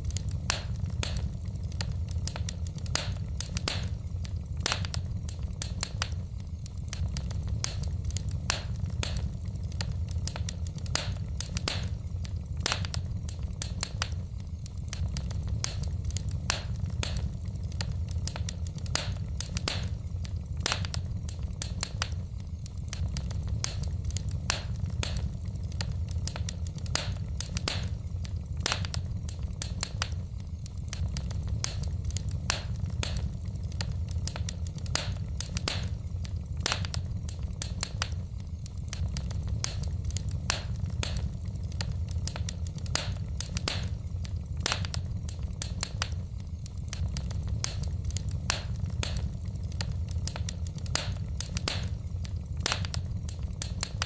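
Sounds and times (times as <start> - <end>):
low rumble of fire: 0.0 - 54.0
wood fire crackling: 0.0 - 54.0.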